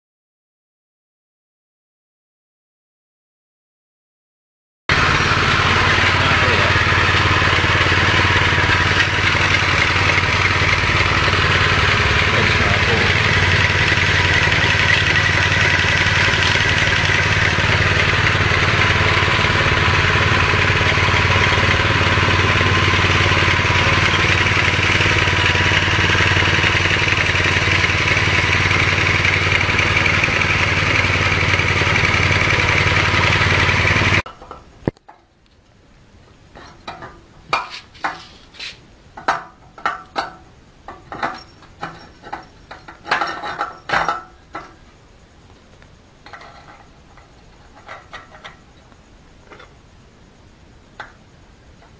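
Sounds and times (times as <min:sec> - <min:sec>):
small petrol engine running: 0:04.9 - 0:34.3, 0:36.5 - 0:45.4, 0:46.2 - 0:49.9.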